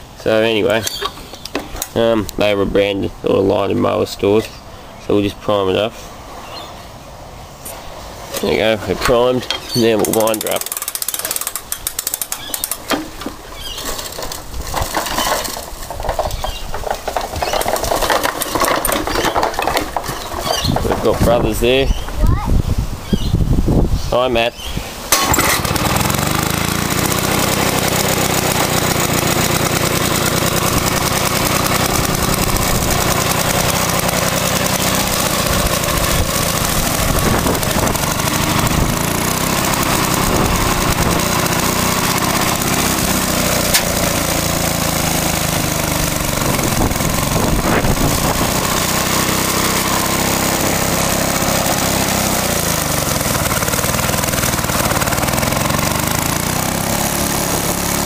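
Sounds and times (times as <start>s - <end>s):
lawnmower engine starting and running: 7.8s - 22.4s, 25.1s - 58.0s.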